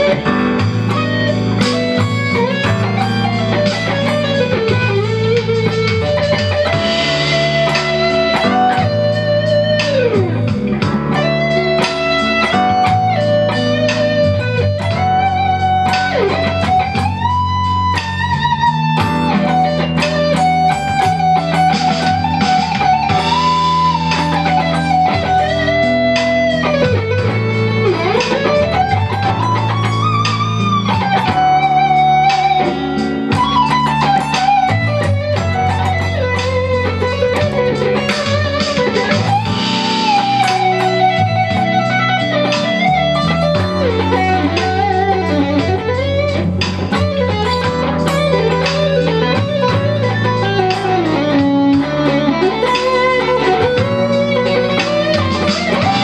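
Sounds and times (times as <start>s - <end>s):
electric guitar soloing: 0.0s - 56.0s
jazzy backing track with bass and drums: 0.0s - 56.0s.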